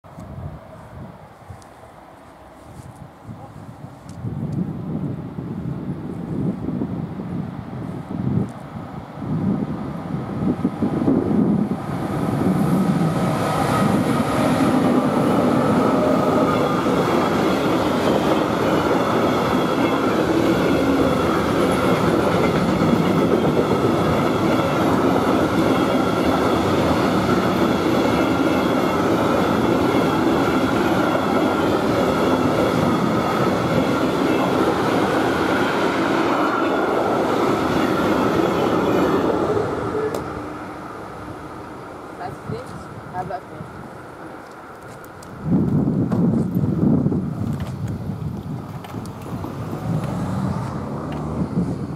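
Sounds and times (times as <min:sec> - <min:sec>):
train wheels rumbling on rails: 0:02.6 - 0:51.9.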